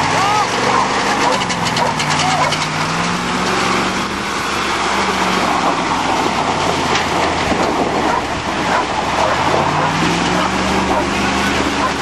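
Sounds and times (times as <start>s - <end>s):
diesel engine running: 0.0s - 12.0s
tyres rushing through mud: 0.0s - 12.0s.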